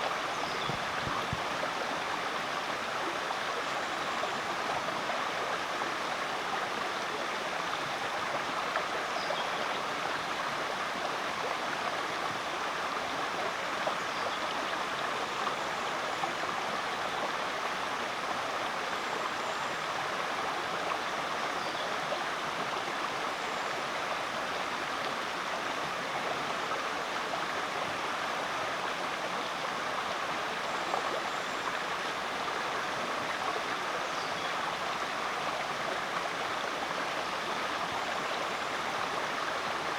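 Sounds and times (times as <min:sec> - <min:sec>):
creek running water: 0:00.0 - 0:39.9.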